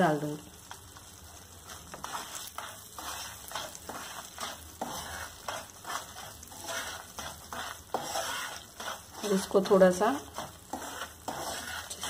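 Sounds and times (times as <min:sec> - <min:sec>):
ghee sizzling: 0:00.0 - 0:12.0
spatula scraping frying pan: 0:00.6 - 0:12.0.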